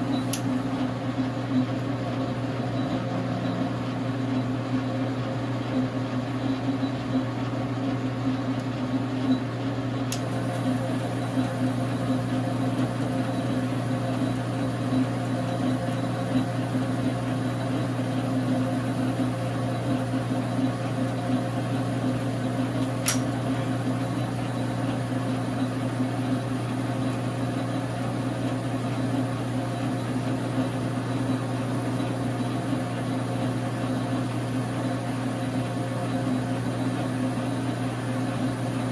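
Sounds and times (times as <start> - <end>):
metal lathe motor humming: 0.0 - 7.7, 8.3 - 38.9.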